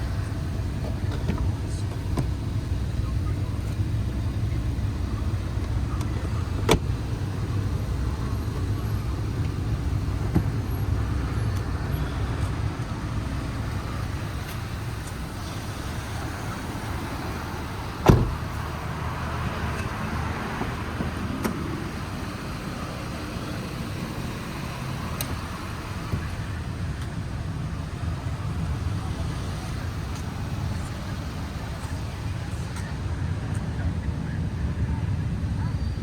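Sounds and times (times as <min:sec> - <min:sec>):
low vehicle rumble: 0:00.0 - 0:36.0.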